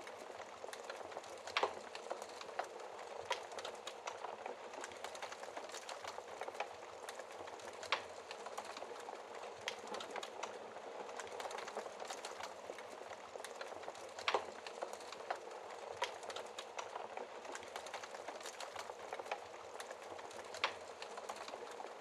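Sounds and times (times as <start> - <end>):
loud fire snaps: 0.0 - 22.0
wood fire crackling: 0.0 - 22.0.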